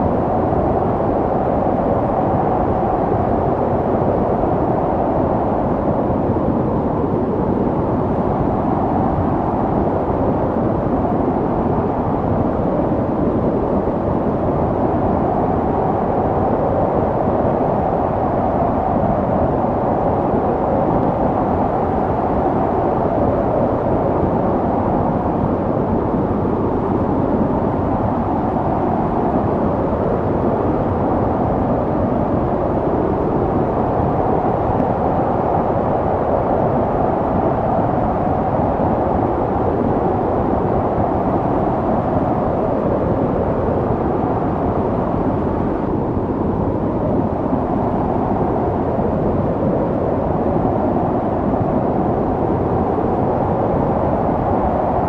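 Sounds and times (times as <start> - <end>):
snowstorm wind blowing: 0.0 - 55.0.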